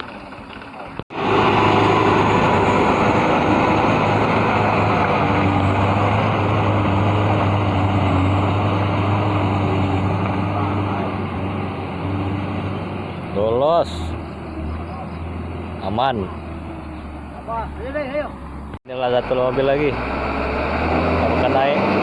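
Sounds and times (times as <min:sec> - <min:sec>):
truck engine revving under load: 0:01.0 - 0:22.0.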